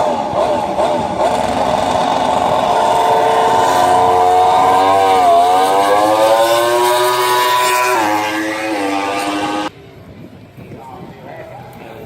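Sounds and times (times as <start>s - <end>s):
racing motorcycle engine high revs: 0.0s - 9.7s.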